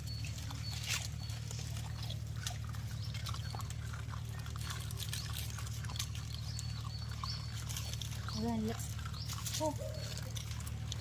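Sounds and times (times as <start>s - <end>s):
dogs eating wet smacking: 0.0s - 11.0s
steady low hum: 0.0s - 11.0s.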